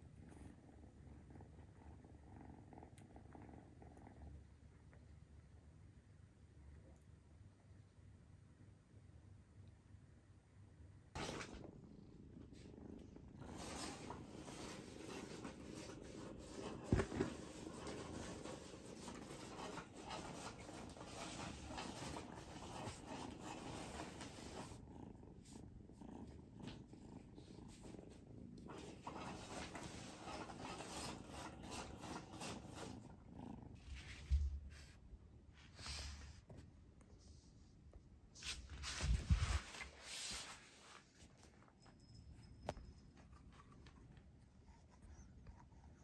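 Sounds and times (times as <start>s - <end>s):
kitten purring: 0.0s - 9.8s, 10.7s - 46.0s.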